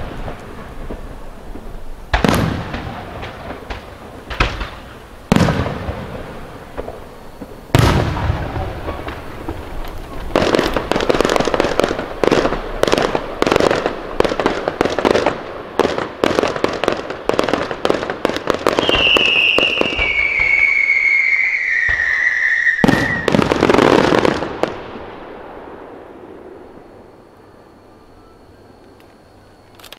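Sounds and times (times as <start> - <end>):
fireworks bangs and crackling: 0.0 - 27.5
falling firework whistle: 0.0 - 29.6.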